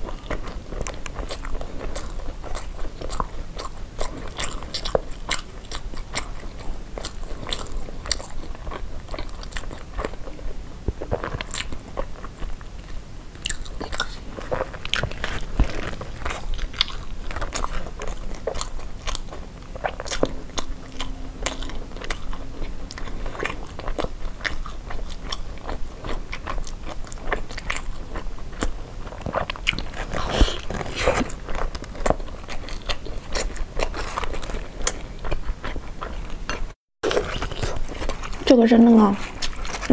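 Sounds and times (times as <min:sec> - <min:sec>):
close-miked chewing: 0:00.0 - 0:39.9.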